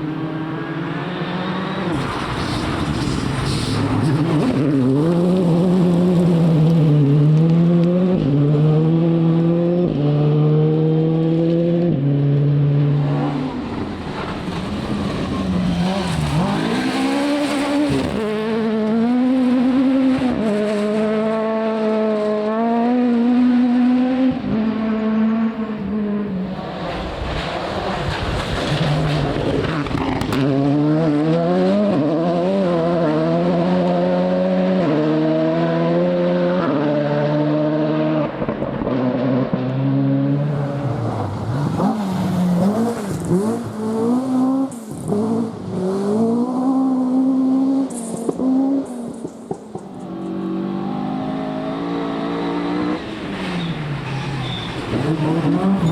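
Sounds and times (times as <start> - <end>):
rally car engine at full throttle: 0.0 - 55.9.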